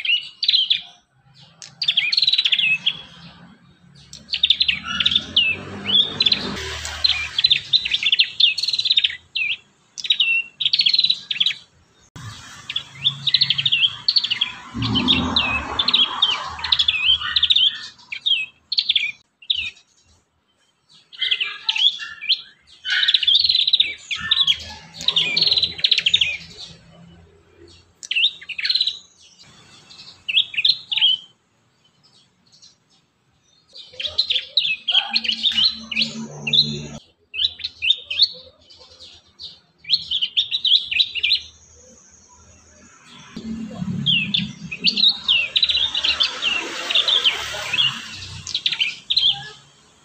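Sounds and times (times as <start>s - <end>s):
bird chirping and trilling: 0.0s - 50.0s.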